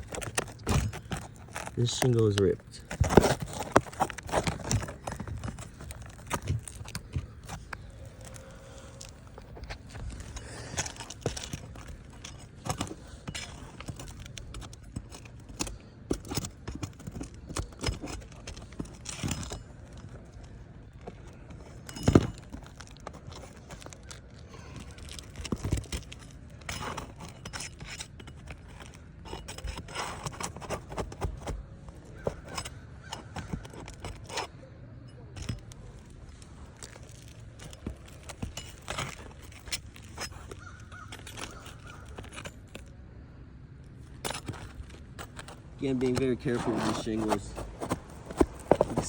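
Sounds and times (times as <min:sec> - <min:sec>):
hand tools scraping on shingles: 0:00.0 - 0:34.7, 0:35.3 - 0:43.0, 0:43.9 - 0:49.0.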